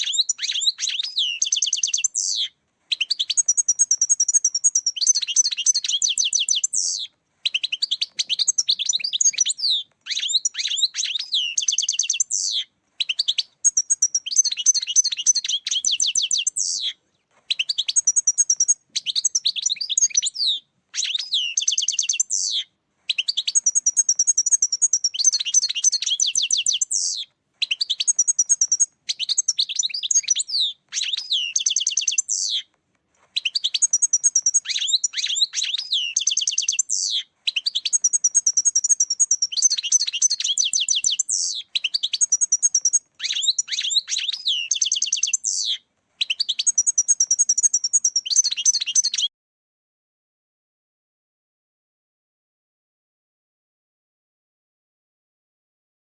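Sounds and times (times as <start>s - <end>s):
goldfinch twittering song: 0.0s - 32.7s, 33.4s - 49.3s.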